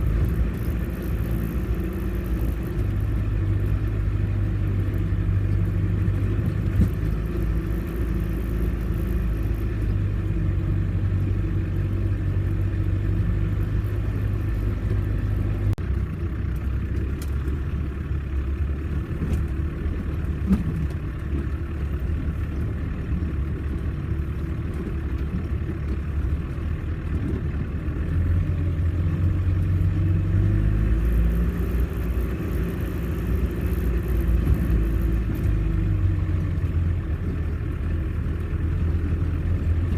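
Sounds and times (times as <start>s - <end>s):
off-road vehicle engine rumbling: 0.0s - 39.9s.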